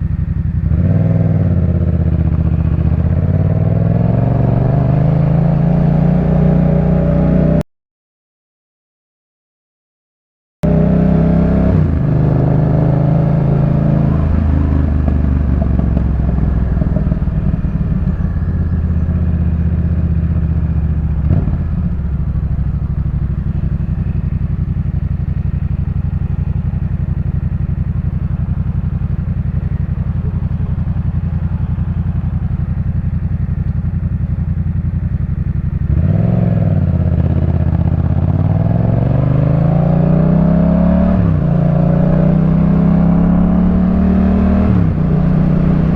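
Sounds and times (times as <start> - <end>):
motorcycle engine: 0.0 - 7.6, 10.6 - 45.9.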